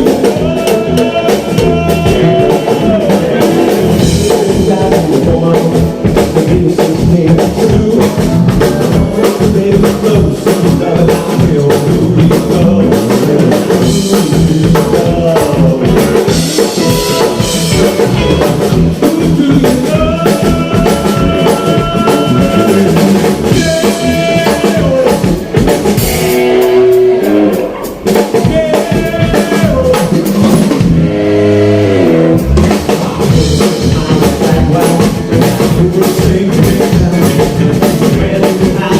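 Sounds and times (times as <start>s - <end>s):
band playing music: 0.0s - 38.9s
drum kit beat: 0.0s - 38.9s.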